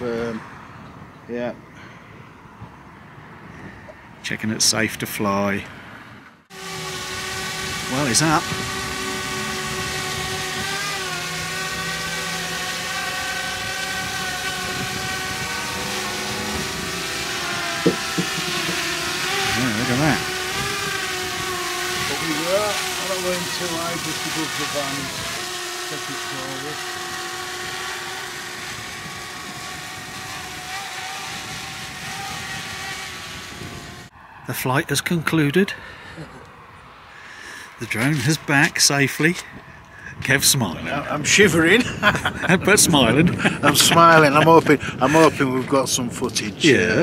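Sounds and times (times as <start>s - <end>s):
drone propellers whining: 6.2s - 47.0s.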